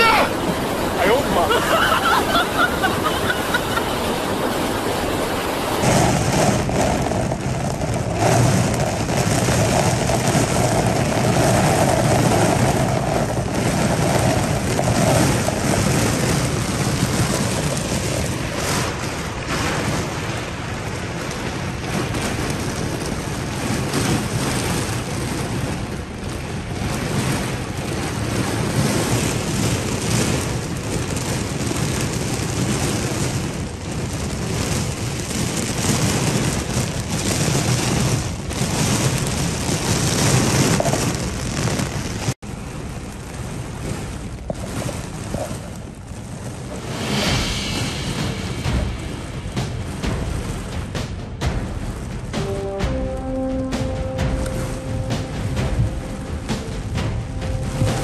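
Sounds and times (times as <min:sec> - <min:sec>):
floodwater rushing: 0:00.0 - 0:58.0
heavy rain pouring: 0:00.0 - 0:58.0.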